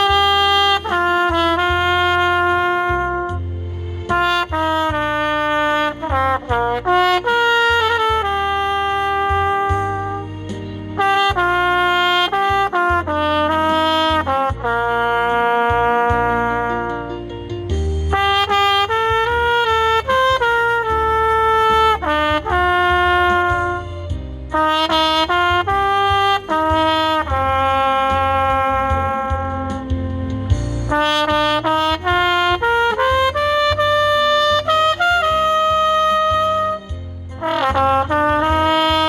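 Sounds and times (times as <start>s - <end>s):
backing track with bass line: 0.0s - 39.0s
solo trumpet ballad melody: 0.0s - 39.0s.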